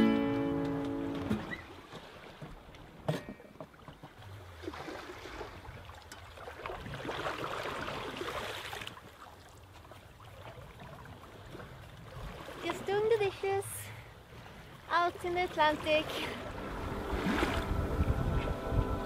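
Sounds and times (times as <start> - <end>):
water splashing along boat hull: 0.0 - 19.0.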